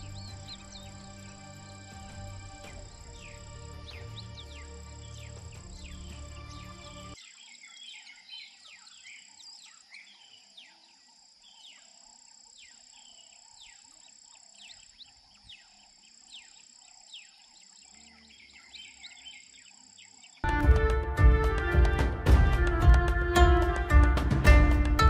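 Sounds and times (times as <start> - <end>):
faint birdsong chirps: 0.0 - 20.5.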